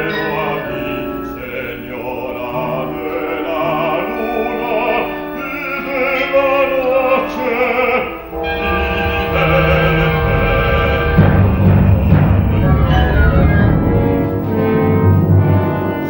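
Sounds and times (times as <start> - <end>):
opera singing with vibrato: 0.0 - 14.0
orchestra holding notes: 0.0 - 16.0.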